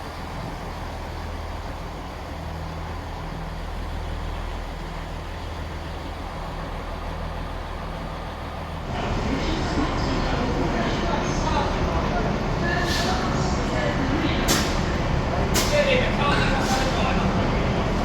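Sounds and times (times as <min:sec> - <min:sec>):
train diesel engine droning: 0:00.0 - 0:18.0.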